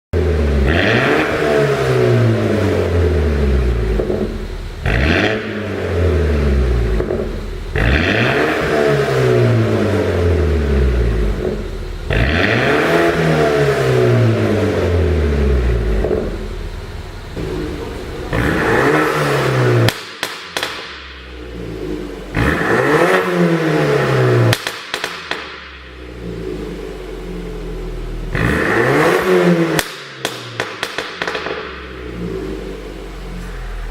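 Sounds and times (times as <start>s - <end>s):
car engine revving: 0.2s - 33.9s
exhaust crackling pops: 3.5s - 14.8s, 15.4s - 33.9s.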